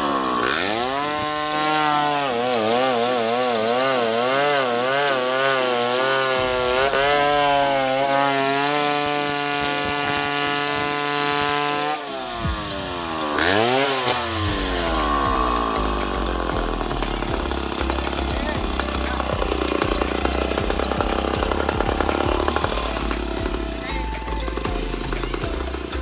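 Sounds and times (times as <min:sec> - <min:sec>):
chainsaw running: 0:00.0 - 0:26.0.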